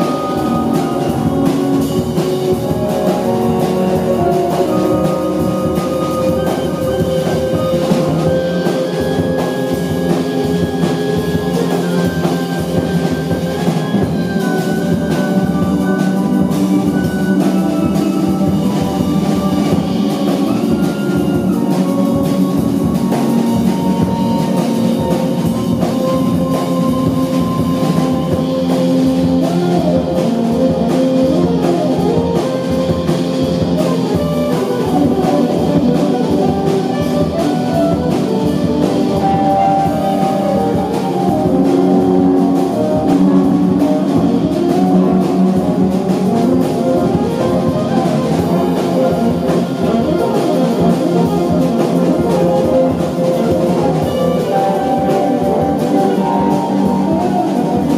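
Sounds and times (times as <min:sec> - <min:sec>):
double bass: 0:00.0 - 0:57.9
drums: 0:00.0 - 0:57.9
keyboards: 0:00.0 - 0:57.9
saxophone: 0:00.0 - 0:57.9.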